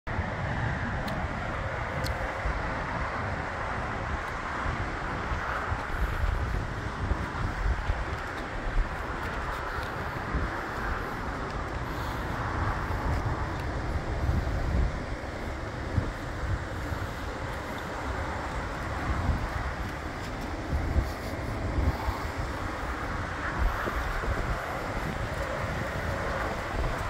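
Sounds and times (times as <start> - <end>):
low vehicle rumble: 0.1 - 27.0
wind buffeting microphone: 0.1 - 27.0.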